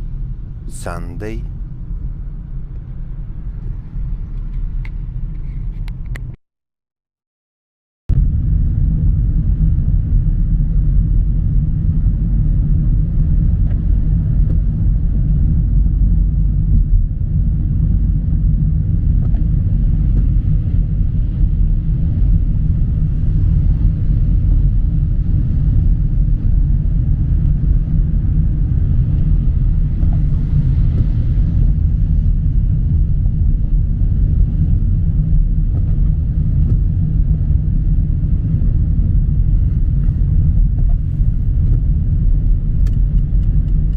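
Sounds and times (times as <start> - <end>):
car cabin rumble: 8.1 - 43.9.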